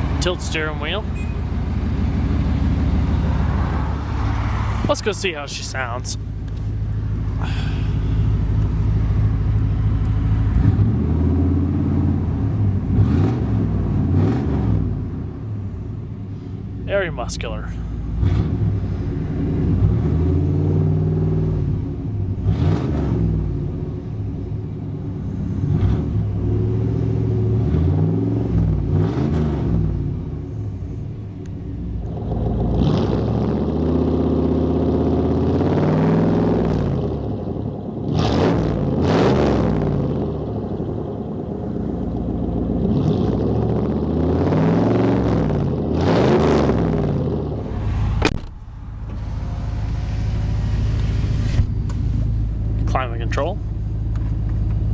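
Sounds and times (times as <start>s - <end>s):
truck engine revving: 0.0s - 15.2s, 18.1s - 24.0s, 25.4s - 30.3s, 32.0s - 54.9s.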